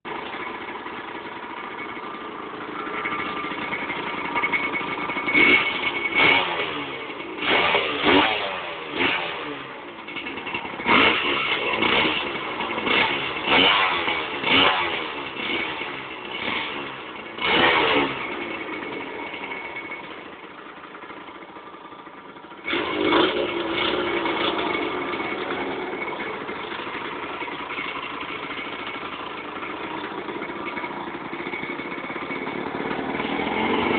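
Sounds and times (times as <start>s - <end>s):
two-stroke engine idling and revving: 0.0s - 33.9s.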